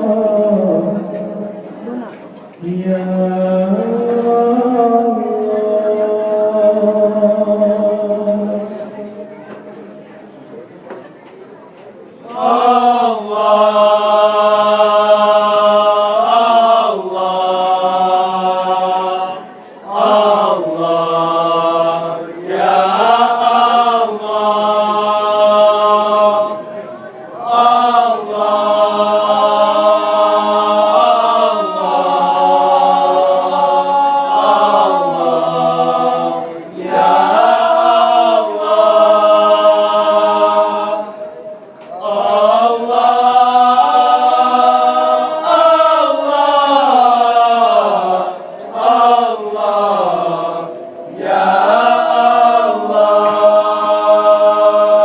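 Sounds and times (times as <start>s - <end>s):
group chanting in unison: 0.0s - 9.3s, 12.2s - 55.0s.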